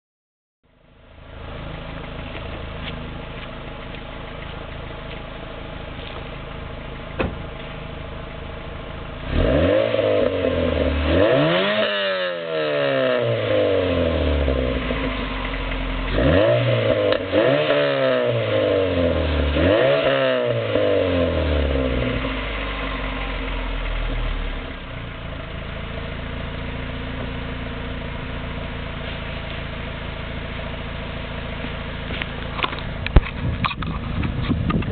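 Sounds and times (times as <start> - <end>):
car engine idling and revving: 0.6 - 34.9.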